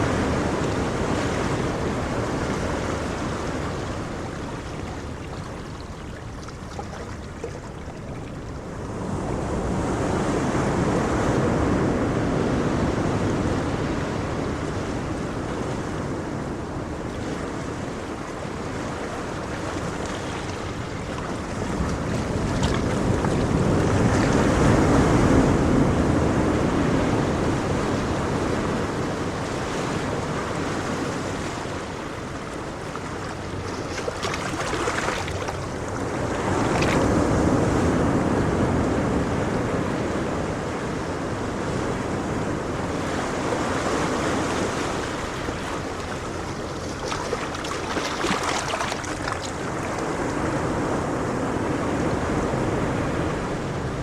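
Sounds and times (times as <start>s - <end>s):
ocean waves washing ashore: 0.0s - 54.0s.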